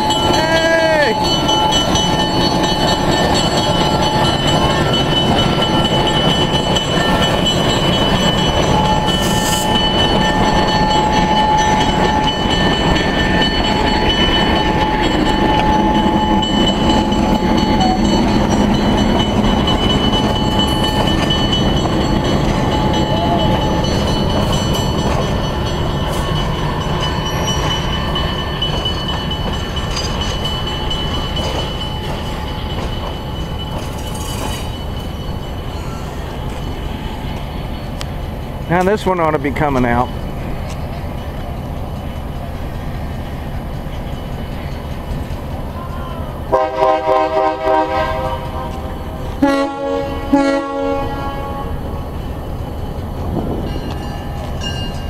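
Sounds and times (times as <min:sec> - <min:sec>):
diesel train rumbling past: 0:00.0 - 0:55.0.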